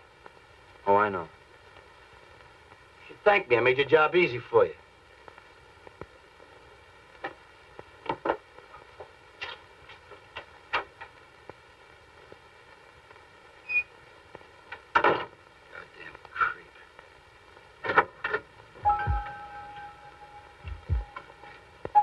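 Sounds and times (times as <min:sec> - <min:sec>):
faint steady tones: 0:00.0 - 0:22.0
low hiss and hum: 0:00.0 - 0:22.0.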